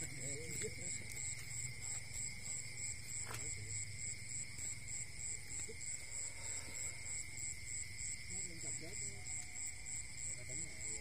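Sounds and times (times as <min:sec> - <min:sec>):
insects chirping: 0:00.0 - 0:11.0
steady high insect trill: 0:00.0 - 0:11.0.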